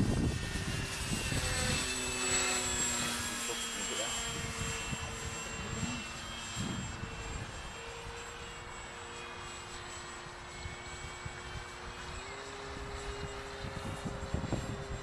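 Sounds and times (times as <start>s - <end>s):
wind buffeting microphone: 0.0s - 8.2s, 10.6s - 15.0s
model plane motor droning: 0.0s - 15.0s.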